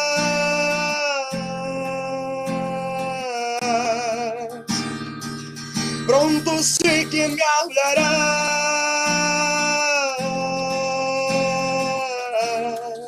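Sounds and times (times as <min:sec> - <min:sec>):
man singing a held note: 0:00.0 - 0:04.6, 0:06.1 - 0:13.0
strummed acoustic guitar chords: 0:00.0 - 0:13.0.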